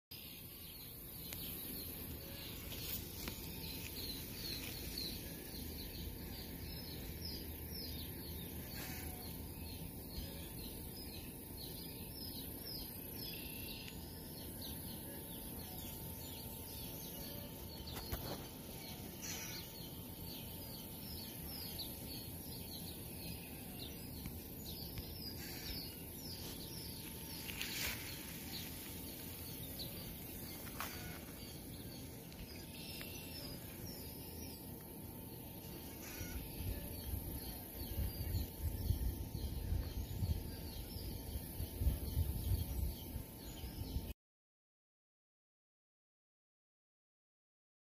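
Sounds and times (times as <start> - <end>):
birds chirping: 0.1 - 44.1
steady background hiss: 0.2 - 42.5.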